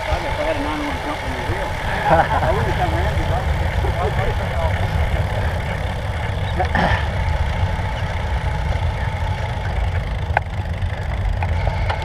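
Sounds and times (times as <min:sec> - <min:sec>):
bike tyres rolling on asphalt: 0:00.0 - 0:12.0.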